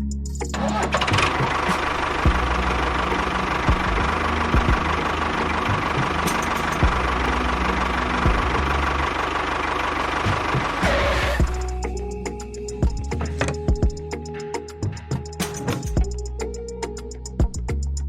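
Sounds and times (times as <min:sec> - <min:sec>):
low background music: 0:00.0 - 0:09.2, 0:10.2 - 0:17.8.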